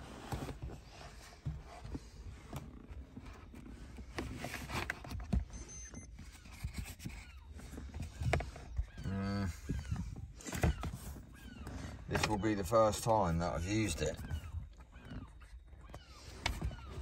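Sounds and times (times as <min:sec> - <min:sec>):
rustling and rubbing: 0:00.0 - 0:17.0.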